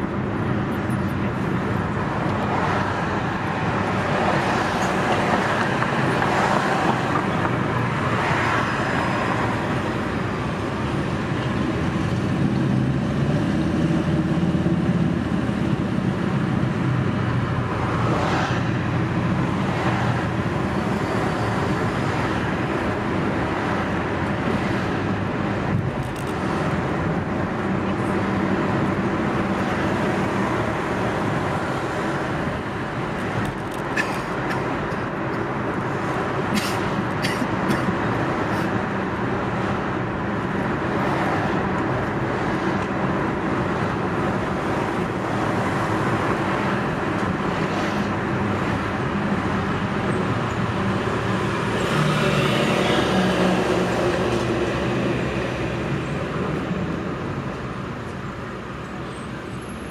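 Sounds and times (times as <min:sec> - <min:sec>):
car engine and tyre hum: 0:00.0 - 0:59.9
vehicles passing: 0:00.0 - 0:59.9.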